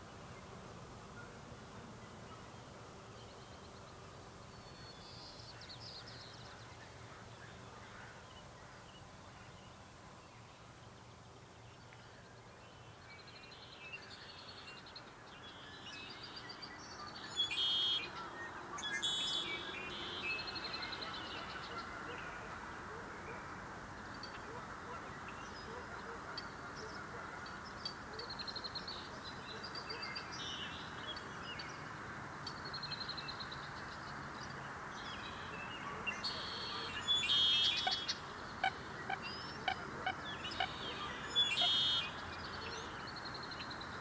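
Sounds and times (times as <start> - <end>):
birdsong and chirps: 2.0 - 44.0.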